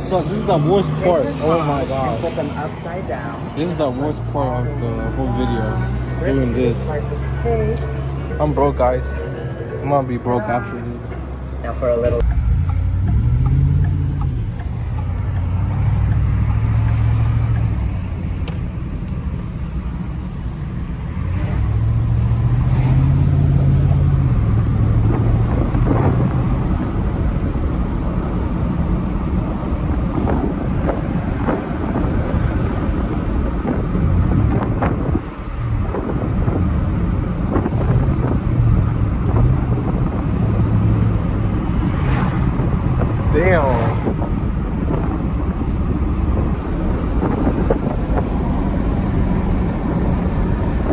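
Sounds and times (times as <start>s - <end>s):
truck engine revving: 0.0s - 19.4s, 21.0s - 50.9s.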